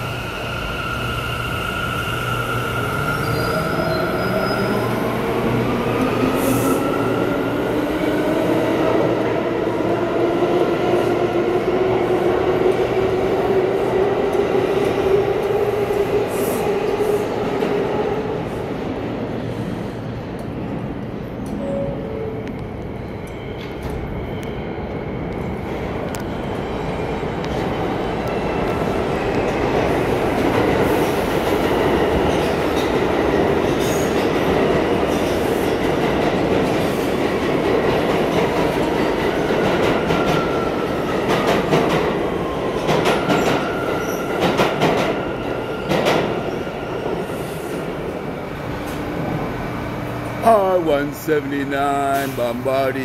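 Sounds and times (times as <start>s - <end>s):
subway train rumbling: 0.0s - 53.0s.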